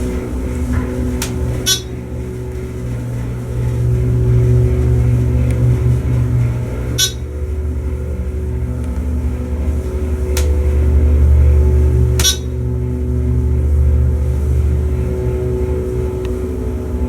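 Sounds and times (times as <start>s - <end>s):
elevator drive humming: 0.0s - 17.0s.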